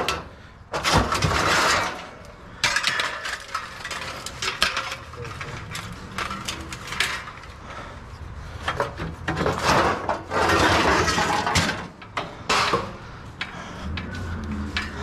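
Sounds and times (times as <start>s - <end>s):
hard objects clinking and clattering: 0.0s - 15.0s
rustling and scraping: 0.0s - 15.0s.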